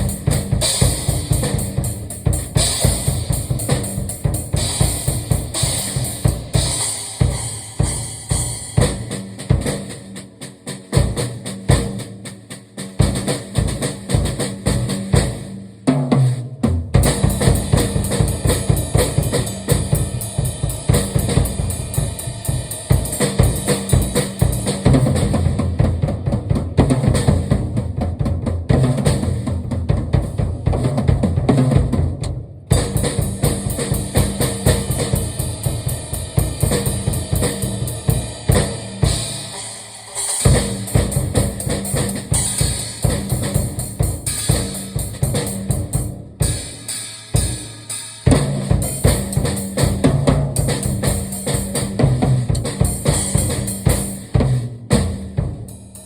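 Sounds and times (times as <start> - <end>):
drum kit played fast: 0.0 - 56.0.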